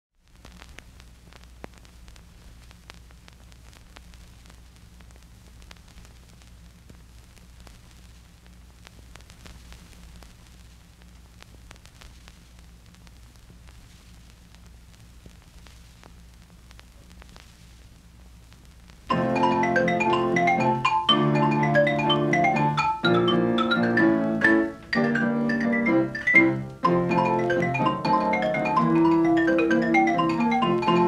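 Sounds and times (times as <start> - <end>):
crackles and pops: 0.1 - 31.0
hiss and low hum: 0.2 - 31.0.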